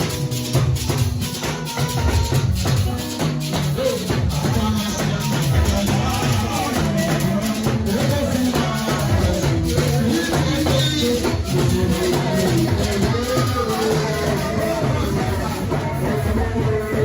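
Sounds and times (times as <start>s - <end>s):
music with busy bass line: 0.0s - 17.0s
steady percussive beat: 0.0s - 17.0s.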